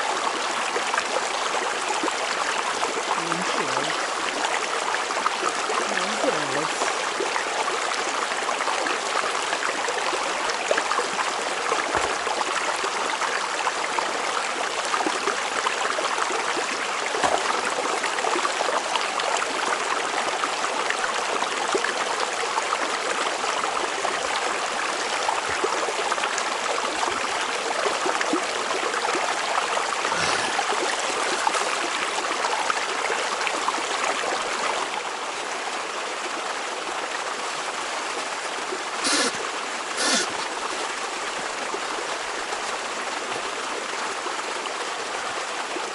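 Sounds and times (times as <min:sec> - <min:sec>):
river water flowing: 0:00.0 - 0:45.9.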